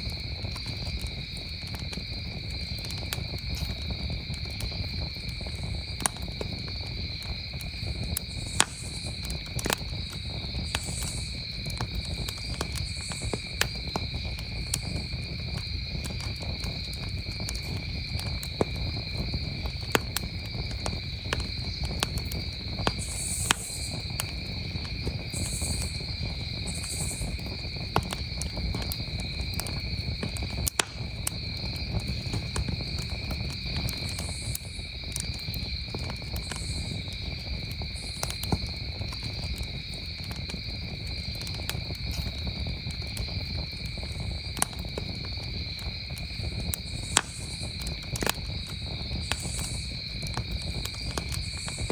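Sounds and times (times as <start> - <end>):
campfire crackling and popping: 0.0 - 51.9
crickets trilling: 0.0 - 51.9.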